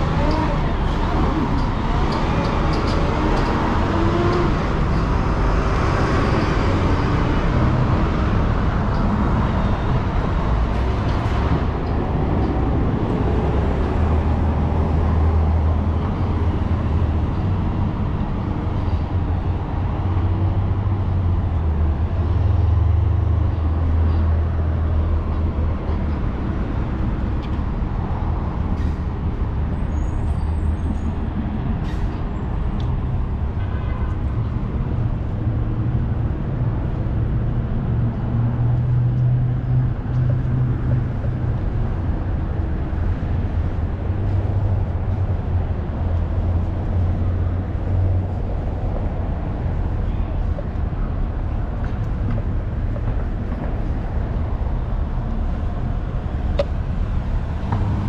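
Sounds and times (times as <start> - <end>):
city street traffic: 0.0 - 58.0
heavy vehicle engine rumbling: 0.0 - 58.0.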